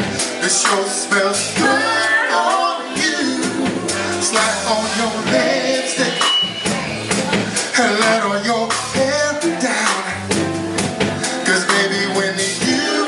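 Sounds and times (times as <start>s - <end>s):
live band music: 0.0s - 13.0s
person singing: 0.2s - 6.5s, 7.3s - 10.4s, 11.2s - 13.0s.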